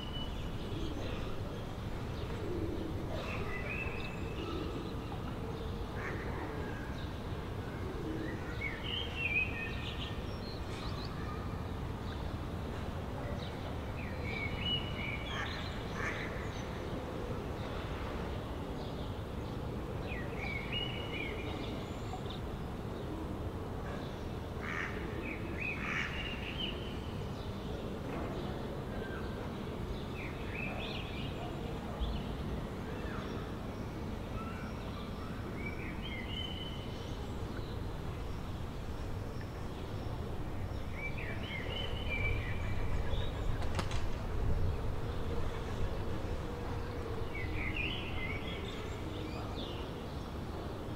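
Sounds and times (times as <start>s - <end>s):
low city background hum: 0.0s - 50.9s.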